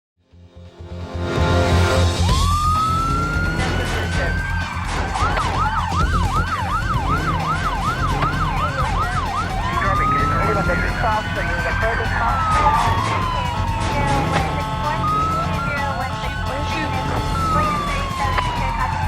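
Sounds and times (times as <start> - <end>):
steady low rumble: 2.0 - 19.0
police siren wailing and yelping: 2.2 - 19.0.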